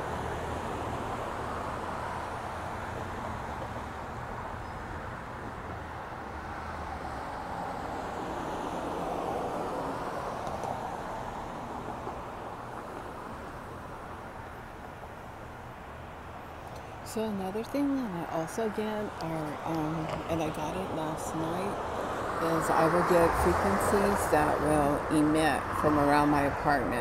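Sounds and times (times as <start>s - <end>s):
road traffic passing: 0.0s - 27.0s.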